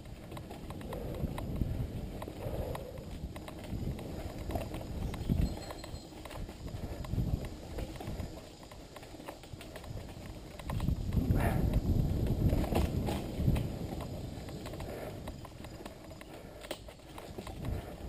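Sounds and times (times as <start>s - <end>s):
bike clicks knocks and rattles: 0.0s - 18.0s
bike tyres rumbling on dirt: 0.0s - 18.0s.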